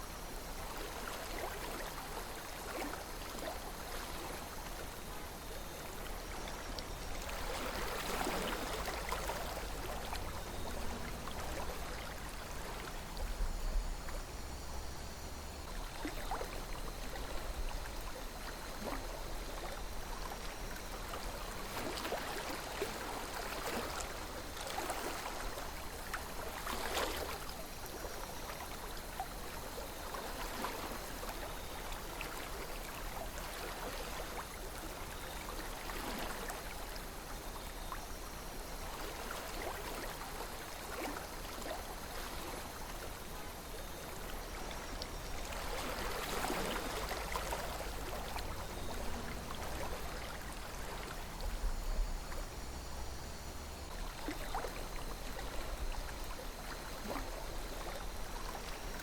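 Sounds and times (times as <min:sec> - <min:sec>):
river flowing: 0:00.0 - 0:37.5, 0:38.1 - 0:59.0
water gurgles and splashes: 0:00.0 - 0:59.0.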